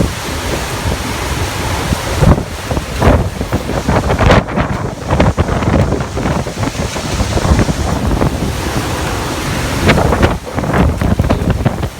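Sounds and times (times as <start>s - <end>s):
strong wind gusts: 0.0s - 11.9s
wind buffeting microphone: 0.0s - 11.9s.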